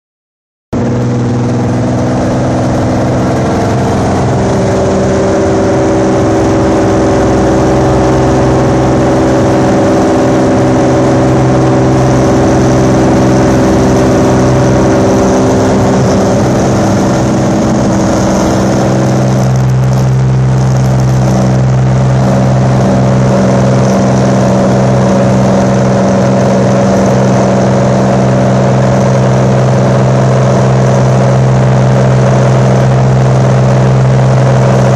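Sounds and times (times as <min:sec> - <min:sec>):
propeller plane engine drone: 0:00.7 - 0:34.9.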